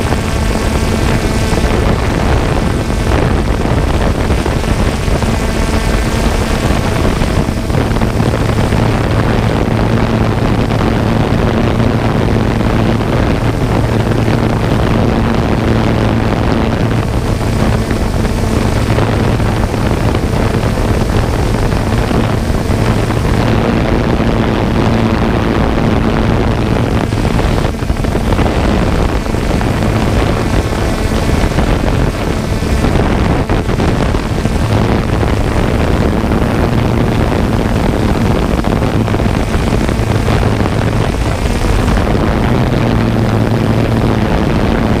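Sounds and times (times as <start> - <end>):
drone propellers buzzing: 0.0 - 45.0.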